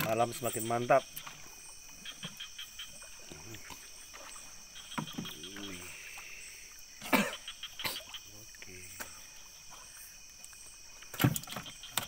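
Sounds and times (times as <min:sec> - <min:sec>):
high insect chorus: 0:00.0 - 0:12.0
water splashing: 0:00.0 - 0:12.0.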